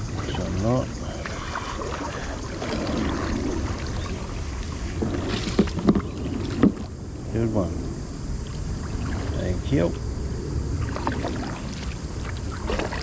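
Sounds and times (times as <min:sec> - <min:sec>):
paddle splashing in water: 0:00.0 - 0:07.1, 0:08.4 - 0:09.9, 0:10.7 - 0:13.0.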